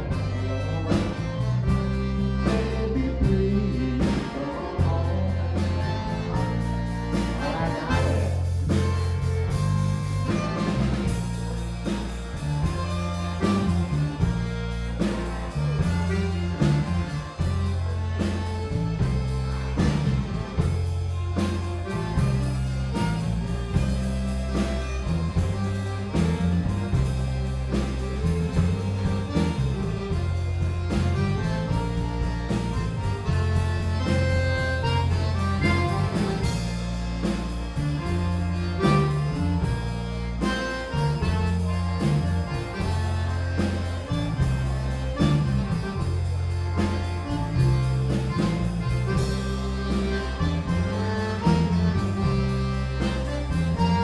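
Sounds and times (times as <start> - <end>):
accordion: 0.0 - 54.0
drum kit: 0.0 - 54.0
electric bass guitar: 0.0 - 54.0
fiddle: 0.0 - 54.0.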